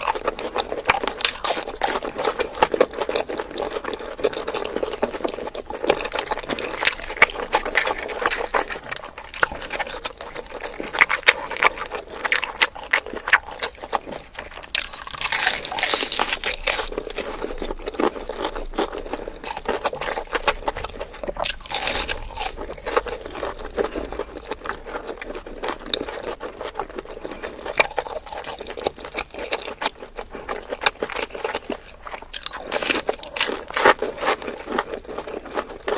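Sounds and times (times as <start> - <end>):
crunching and chewing: 0.0 - 35.9.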